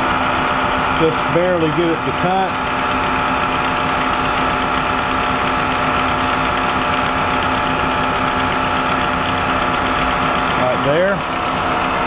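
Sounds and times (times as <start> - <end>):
milling machine motor hum: 0.0 - 12.0.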